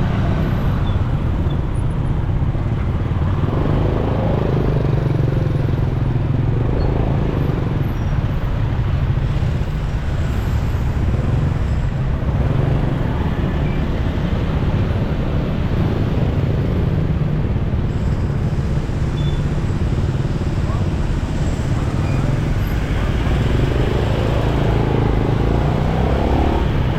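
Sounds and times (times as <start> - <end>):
motorcycle engine and tyres rumbling: 0.0 - 26.9
surrounding traffic: 0.0 - 26.9.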